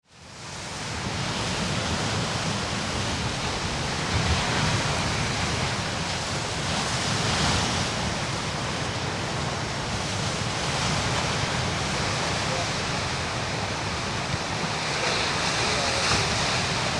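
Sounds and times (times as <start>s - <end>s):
ocean surf breaking: 0.2s - 16.9s.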